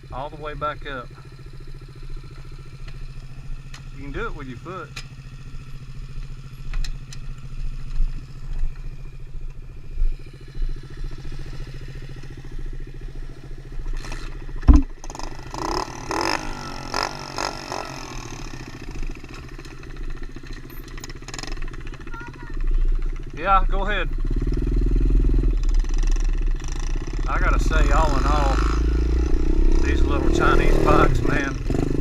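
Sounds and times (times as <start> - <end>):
motorbike engine revving: 0.0 - 32.0
small motorbike engine idling: 0.0 - 32.0.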